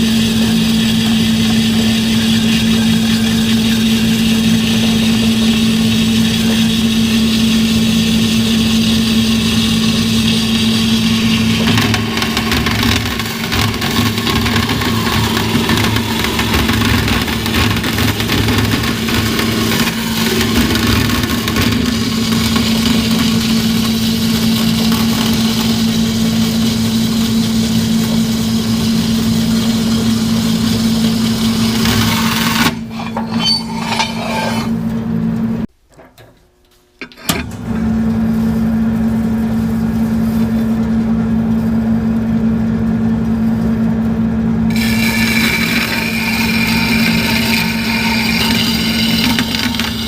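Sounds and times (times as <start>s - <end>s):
bandsaw motor hum: 0.0s - 35.6s, 44.7s - 50.0s.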